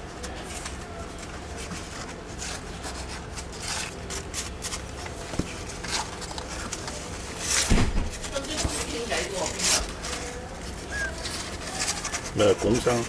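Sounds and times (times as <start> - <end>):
rubbing and scratching: 0.0 - 13.0.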